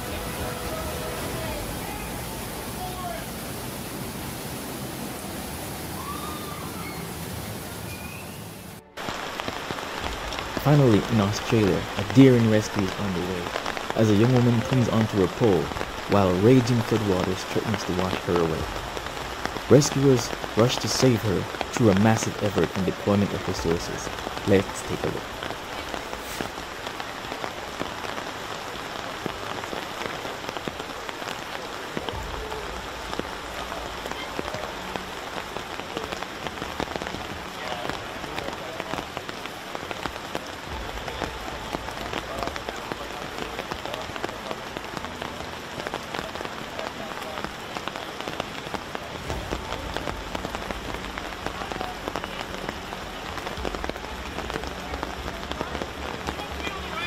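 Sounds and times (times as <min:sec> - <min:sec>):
heavy rain falling: 0:00.0 - 0:57.0
rain drops hitting close by: 0:00.0 - 0:57.0.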